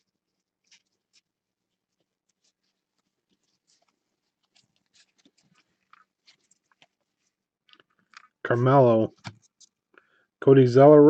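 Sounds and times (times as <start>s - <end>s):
trading cards flicking and rustling: 0.2s - 8.4s, 9.0s - 9.9s.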